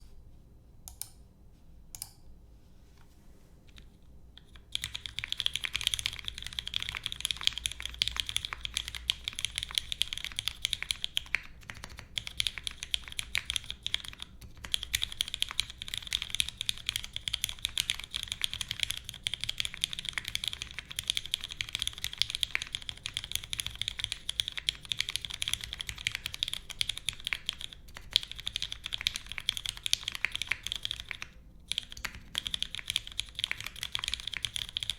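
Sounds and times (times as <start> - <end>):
mechanical keyboard typing: 4.4 - 34.9.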